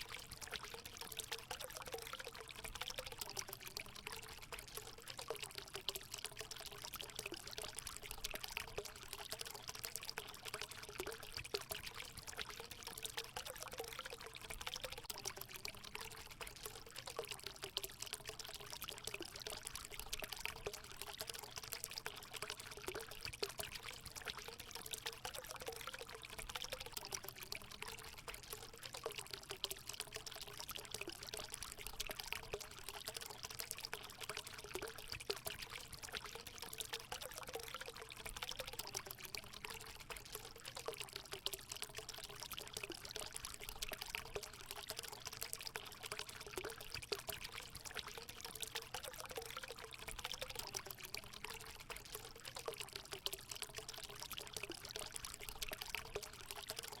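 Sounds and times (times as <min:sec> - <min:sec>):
water pouring into a pool: 0:00.0 - 0:57.0.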